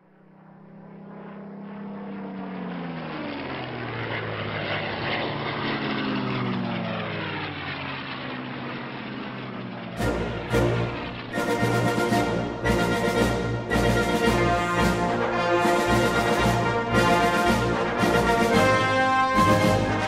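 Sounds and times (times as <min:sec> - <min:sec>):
propeller aircraft flying past: 0:00.0 - 0:20.0.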